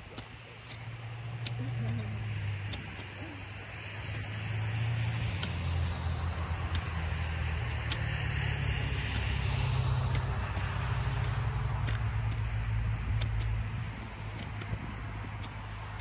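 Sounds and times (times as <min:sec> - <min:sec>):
hoe chopping soil: 0:00.0 - 0:16.0
steady low rumble: 0:00.0 - 0:16.0.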